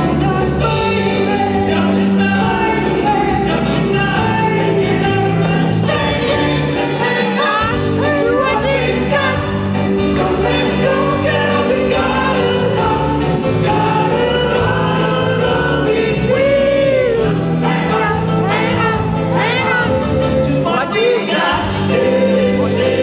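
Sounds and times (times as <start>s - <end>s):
male singers harmonising: 0.0s - 23.0s
rock and roll backing band: 0.0s - 23.0s.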